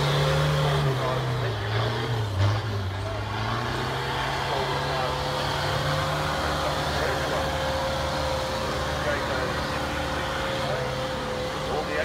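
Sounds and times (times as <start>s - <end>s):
diesel engine running under load: 0.0s - 12.0s
voices in background: 0.2s - 12.0s.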